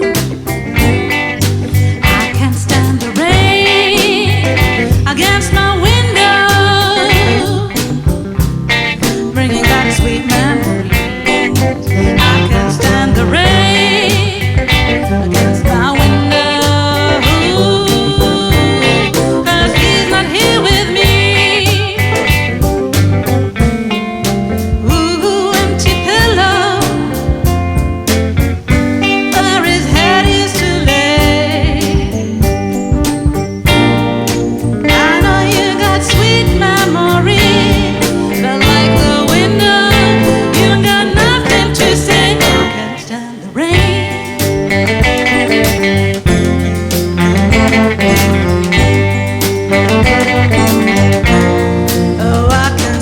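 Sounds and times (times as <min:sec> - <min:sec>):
bass line: 0:00.0 - 0:53.0
drums keeping a steady beat: 0:00.0 - 0:53.0
lead melody with heavy vibrato: 0:00.0 - 0:53.0
live blues band playing: 0:00.0 - 0:53.0.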